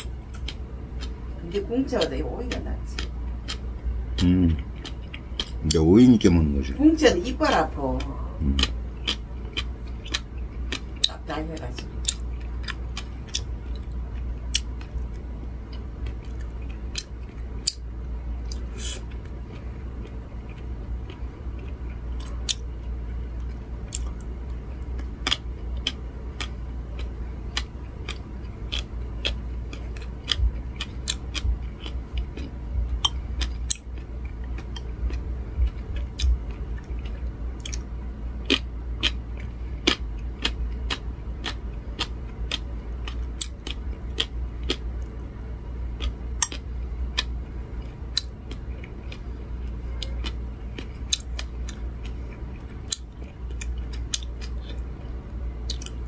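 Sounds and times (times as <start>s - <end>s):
person chewing crunchy pickle: 0.0s - 1.4s, 2.0s - 6.8s, 8.0s - 56.0s
steady low hum: 0.0s - 56.0s.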